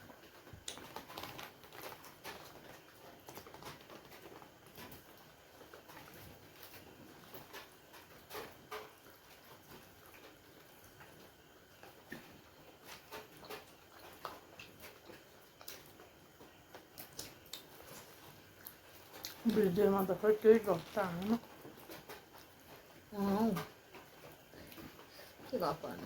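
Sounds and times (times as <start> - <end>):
people chewing: 0.1 - 26.0.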